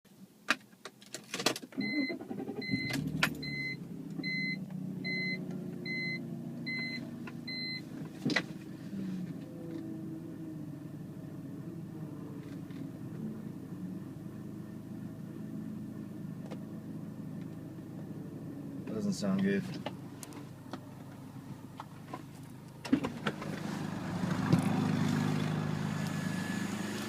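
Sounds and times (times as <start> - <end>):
car engine starting and idling: 0.8 - 27.0.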